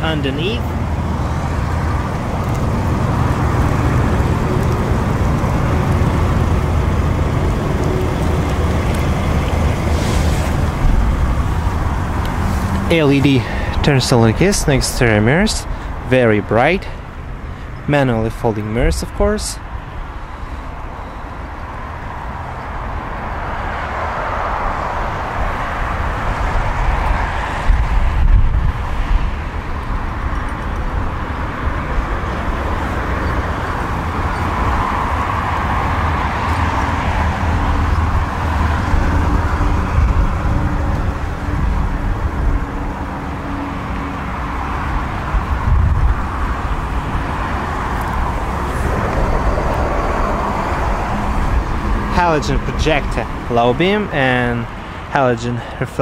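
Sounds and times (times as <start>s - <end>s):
road traffic noise: 0.0s - 56.0s
wind rumble on microphone: 0.6s - 16.1s, 20.0s - 53.5s.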